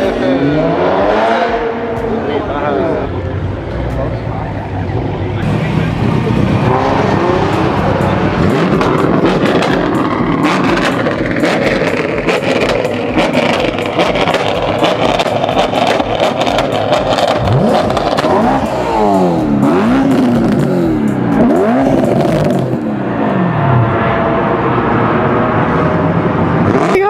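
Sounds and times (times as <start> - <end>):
car engine revving with crackles: 0.0 - 27.0.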